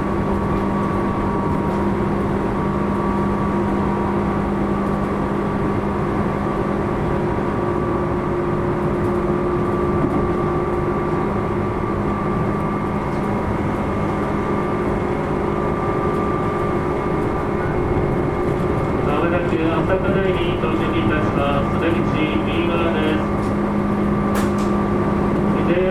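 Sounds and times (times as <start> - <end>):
train motor hum: 0.0 - 25.9
train wheels rumbling on rails: 0.0 - 25.9.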